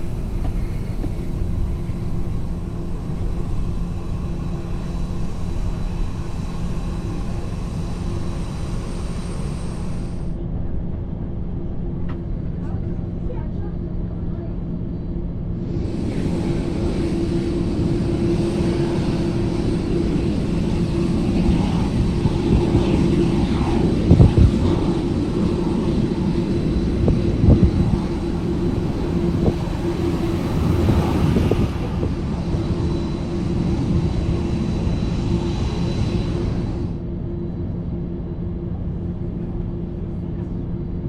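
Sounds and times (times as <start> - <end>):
jet engines humming: 0.0 - 41.0.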